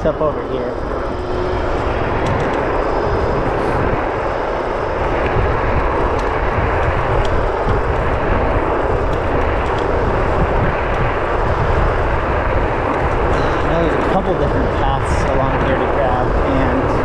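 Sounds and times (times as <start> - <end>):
scooter tyre and ride noise: 0.0 - 17.0
wind over microphone: 0.0 - 17.0.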